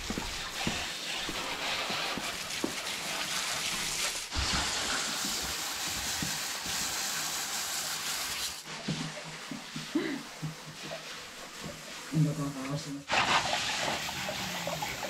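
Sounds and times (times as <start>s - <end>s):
hose nozzle spraying water: 0.0s - 15.0s.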